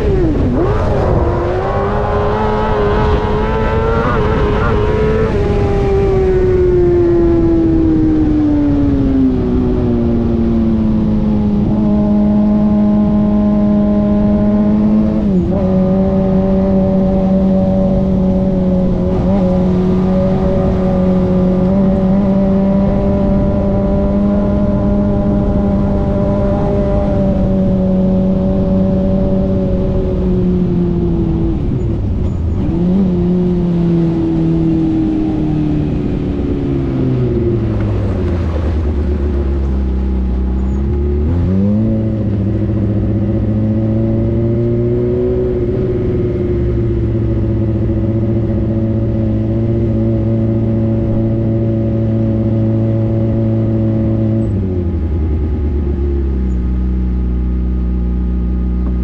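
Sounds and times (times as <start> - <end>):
race car engine revving and idling: 8.8 - 59.0.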